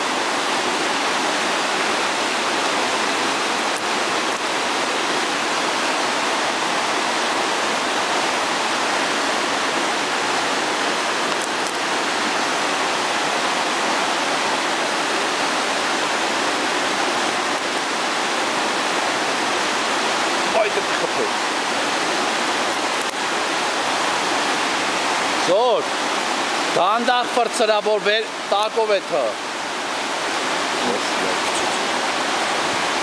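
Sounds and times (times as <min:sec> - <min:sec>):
river rushing through rapids: 0:00.0 - 0:33.0.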